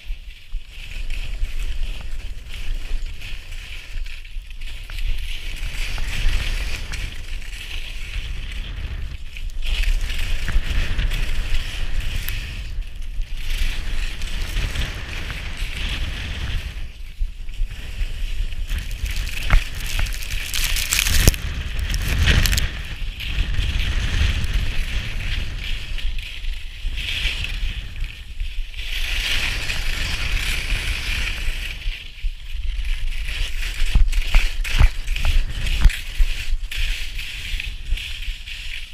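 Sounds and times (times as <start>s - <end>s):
skis scraping on snow: 0.0s - 38.9s
wind on microphone: 0.0s - 38.9s.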